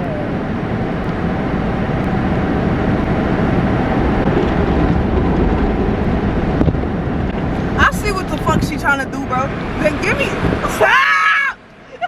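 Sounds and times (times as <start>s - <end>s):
car wash water spray and machinery: 0.0s - 12.0s.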